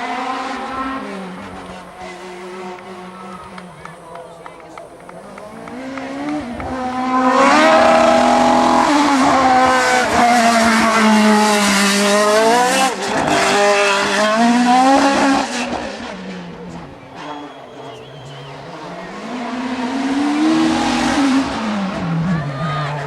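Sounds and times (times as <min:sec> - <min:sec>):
racing car engine passing: 0:00.0 - 0:23.0.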